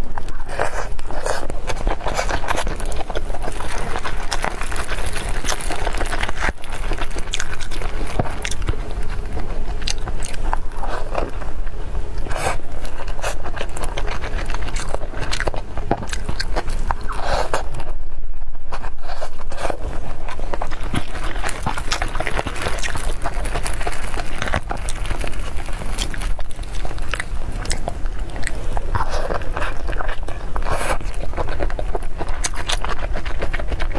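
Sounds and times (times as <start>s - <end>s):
biting and chewing food: 0.0s - 33.9s.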